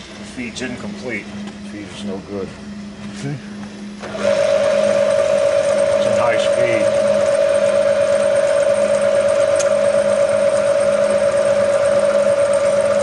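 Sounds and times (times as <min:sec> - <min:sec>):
milling machine whining: 0:00.0 - 0:13.0.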